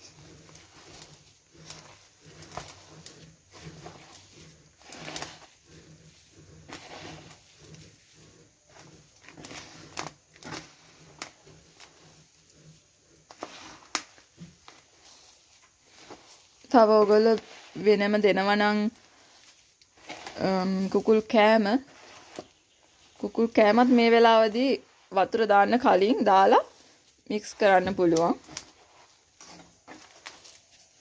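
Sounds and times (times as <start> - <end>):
hand kneading damp mash: 0.0 - 31.0.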